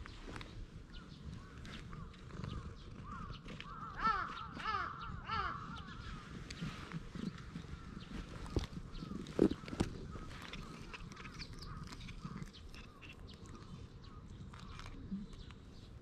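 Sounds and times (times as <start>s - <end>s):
bird calling: 0.1s - 15.0s.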